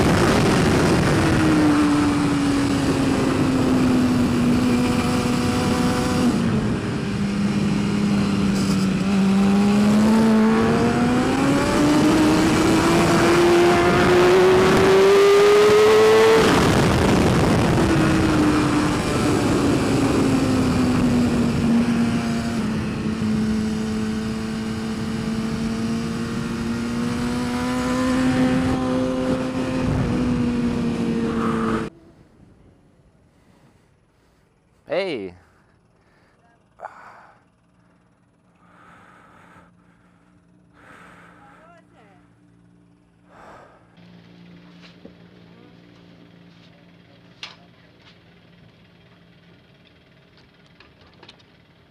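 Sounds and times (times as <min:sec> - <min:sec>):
motorcycle engine revving: 0:00.0 - 0:32.4, 0:33.3 - 0:51.9.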